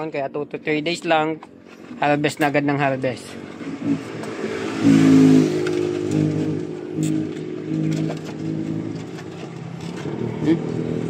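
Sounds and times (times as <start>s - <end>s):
vehicle engine running: 0.2s - 11.0s.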